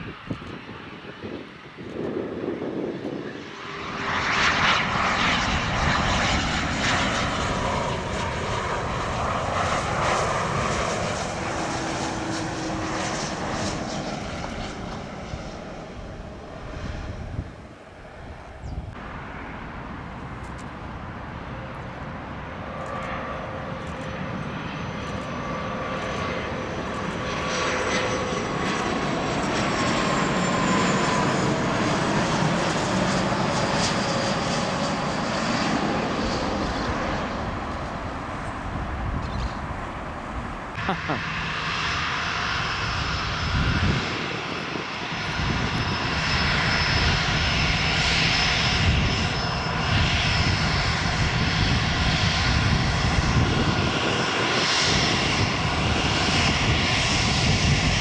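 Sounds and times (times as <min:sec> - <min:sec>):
jet engine rumble with whine: 0:00.0 - 0:58.0.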